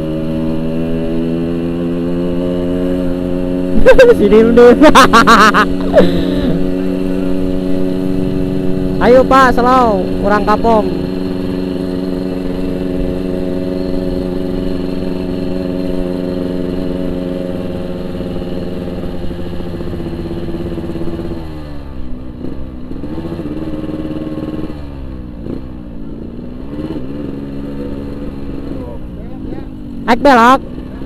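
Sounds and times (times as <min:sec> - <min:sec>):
two-stroke motorcycle engine running: 0:00.0 - 0:31.0.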